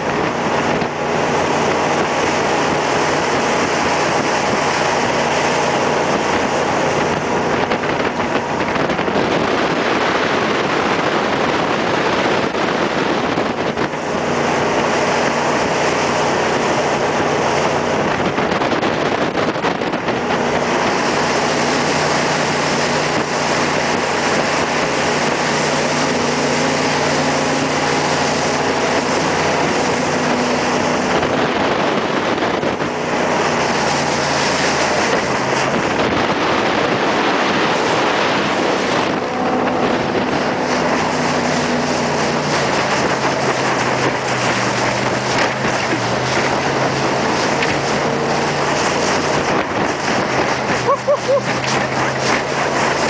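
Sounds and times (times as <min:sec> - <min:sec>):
boat engine running: 0:00.0 - 0:53.0
water rushing: 0:00.0 - 0:53.0
wind on microphone: 0:00.0 - 0:53.0.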